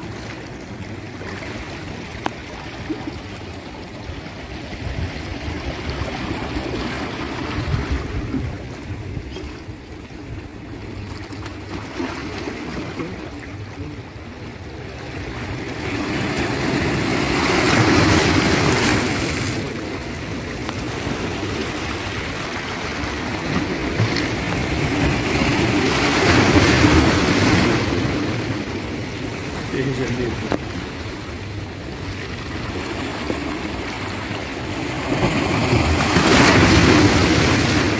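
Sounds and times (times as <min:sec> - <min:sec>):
sea waves washing in: 0:00.0 - 0:37.9.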